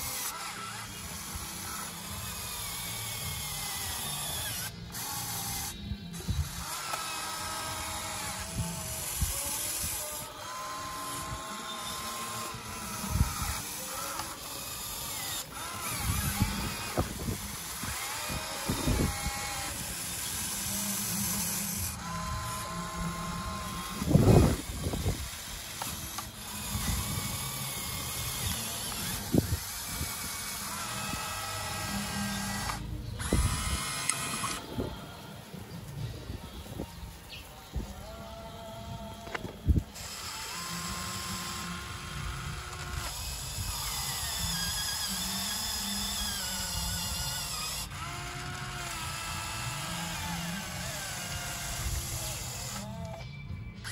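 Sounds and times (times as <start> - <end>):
hydraulic pump whining: 0.0 - 53.9.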